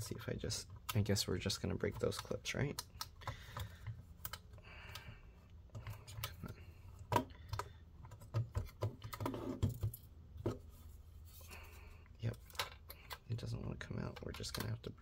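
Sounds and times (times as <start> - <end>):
plastic shell clicking and creaking: 0.6 - 10.5, 12.2 - 15.0.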